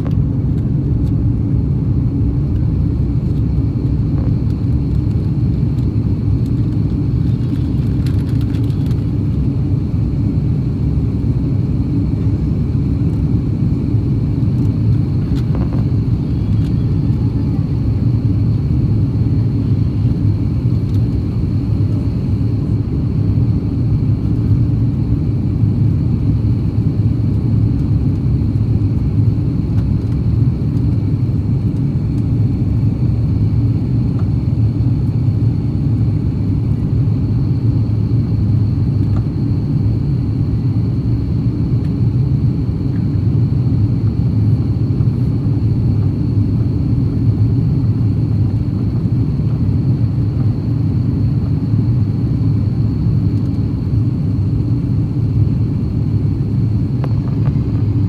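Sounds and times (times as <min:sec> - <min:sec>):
faint high whine: 0:00.0 - 0:58.0
jet engines rumbling: 0:00.0 - 0:58.0.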